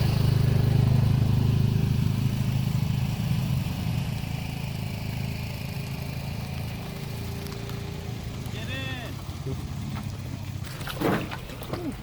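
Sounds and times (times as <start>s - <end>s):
pickup engine humming: 0.0s - 12.0s.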